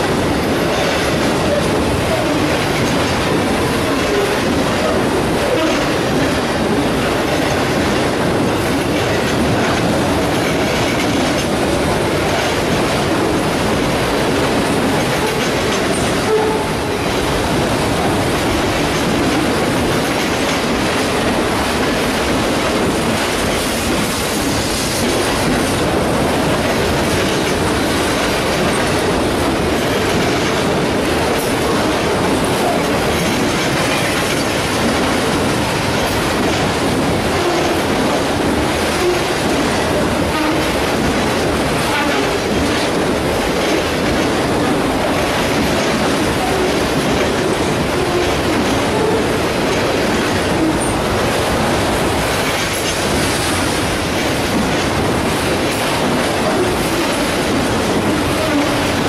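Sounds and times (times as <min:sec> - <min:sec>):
freight train rumbling past: 0:00.0 - 0:59.0
wheels clattering on rails: 0:00.0 - 0:59.0.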